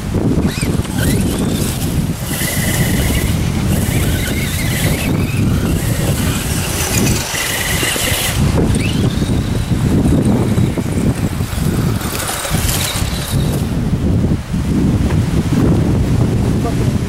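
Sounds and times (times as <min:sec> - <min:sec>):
electric motor and gears whining: 0:00.0 - 0:15.2
wind buffeting microphone: 0:00.0 - 0:17.0.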